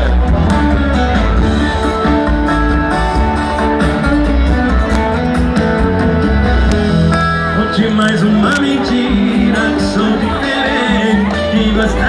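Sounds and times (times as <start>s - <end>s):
guitar: 0.0s - 12.0s
live band music: 0.0s - 12.0s.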